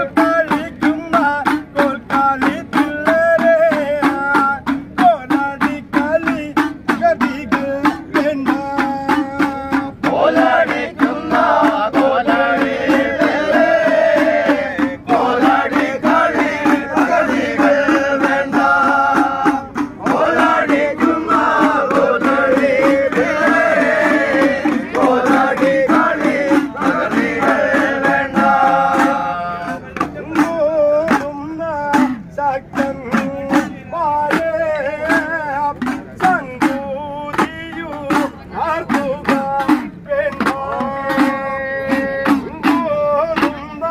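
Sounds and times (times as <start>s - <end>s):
hand drums struck in rhythm: 0.0s - 43.9s
men chanting together: 0.0s - 43.9s.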